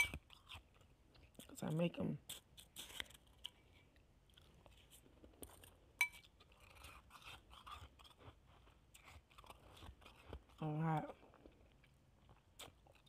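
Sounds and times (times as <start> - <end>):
chewing shaved ice: 0.0 - 13.0.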